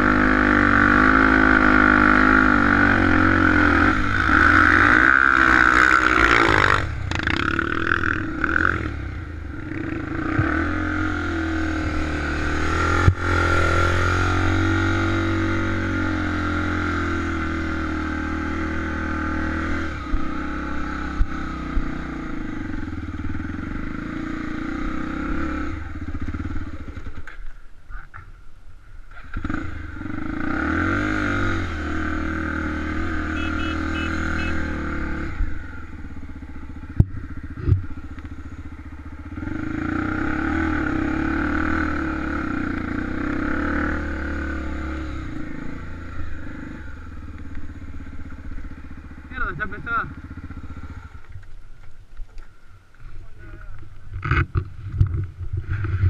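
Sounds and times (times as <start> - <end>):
motorcycle engine revving: 0.0 - 27.6, 29.1 - 56.0.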